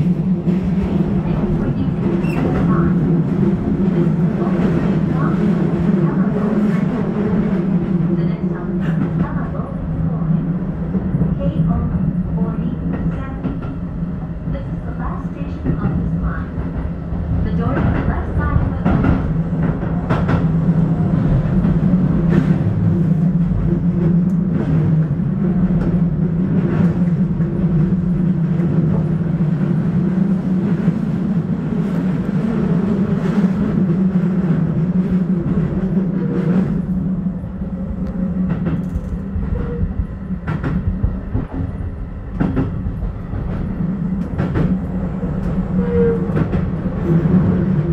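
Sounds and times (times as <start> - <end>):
low hum of running train: 0.0 - 47.9.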